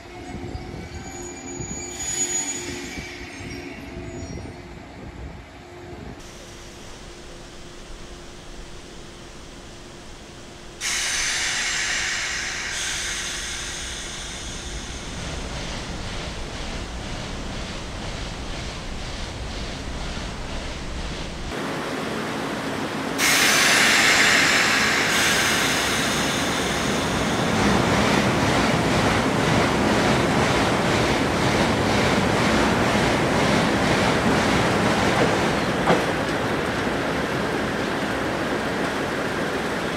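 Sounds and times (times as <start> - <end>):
electric train pulling out: 0.0 - 39.9.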